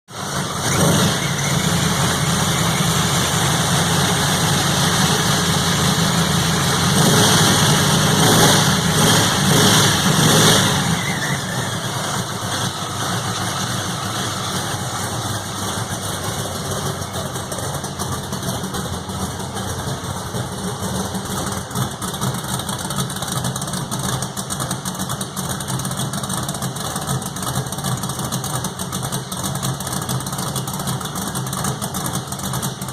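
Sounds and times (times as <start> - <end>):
engine revving and idling: 0.1 - 32.9.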